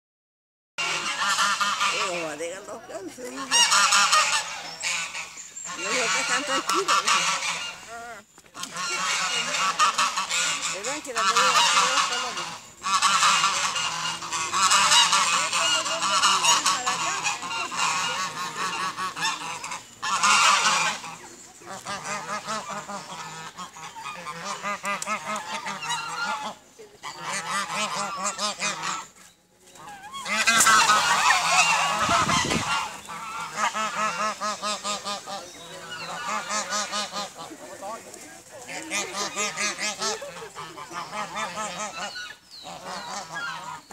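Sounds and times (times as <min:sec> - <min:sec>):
geese honking: 0:00.8 - 0:43.9.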